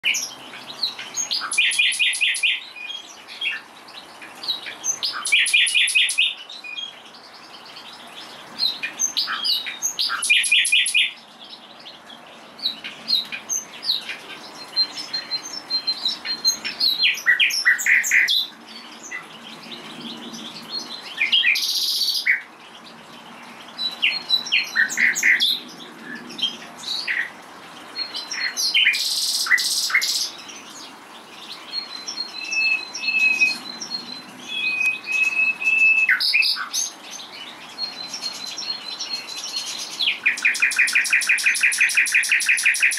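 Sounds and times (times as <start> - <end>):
nightingale singing: 0.0 - 42.9.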